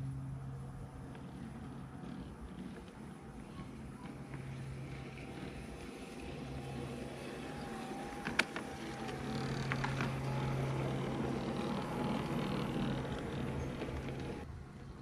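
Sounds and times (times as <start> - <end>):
model tram motor whining: 0.0 - 14.5.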